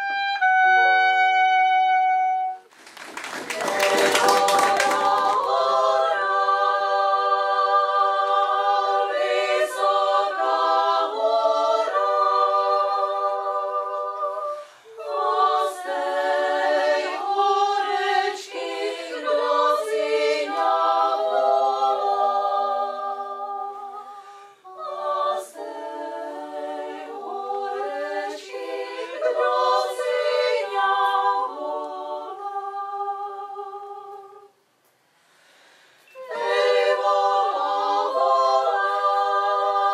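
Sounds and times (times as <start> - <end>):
women's vocal ensemble singing: 3.4 - 34.6, 36.1 - 39.9.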